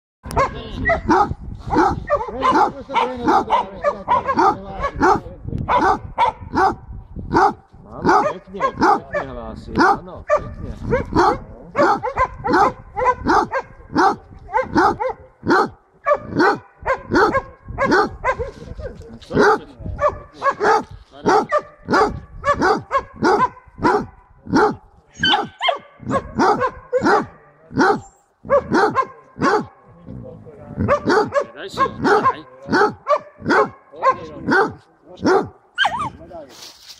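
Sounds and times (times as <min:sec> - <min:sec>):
dog barking rapidly: 0:00.3 - 0:18.6, 0:19.3 - 0:29.8, 0:30.8 - 0:36.2.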